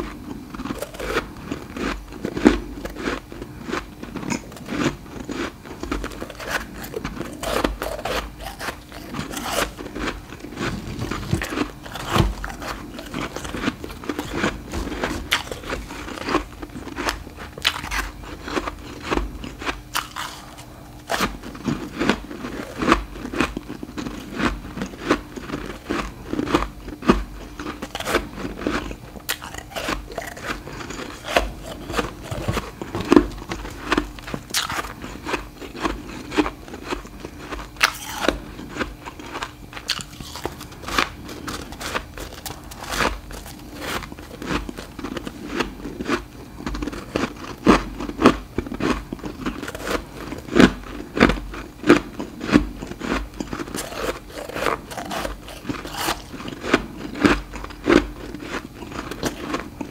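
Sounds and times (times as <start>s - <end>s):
ice being bitten and chewed: 0.0s - 59.9s.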